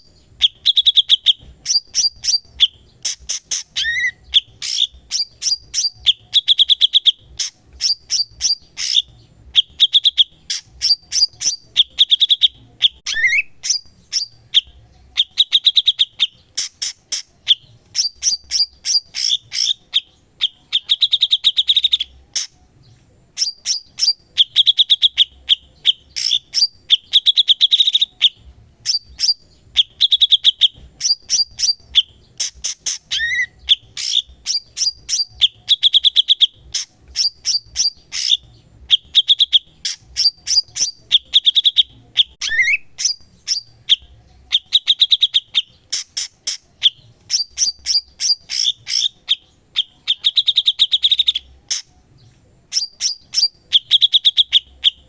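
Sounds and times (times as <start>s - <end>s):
bird chattering trills and chirps: 0.0s - 22.6s, 23.2s - 51.9s, 52.6s - 55.0s.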